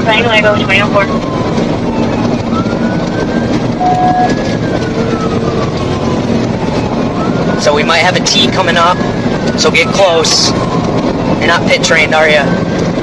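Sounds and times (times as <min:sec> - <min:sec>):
car engine and road noise: 0:00.0 - 0:13.0
police siren wailing: 0:00.0 - 0:13.0.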